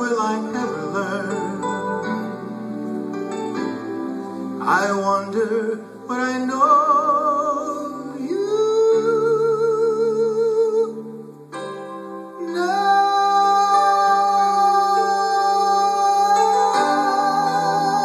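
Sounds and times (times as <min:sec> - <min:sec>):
person singing with vibrato: 0:00.0 - 0:02.8, 0:03.7 - 0:18.0
worship song accompaniment: 0:00.0 - 0:18.0.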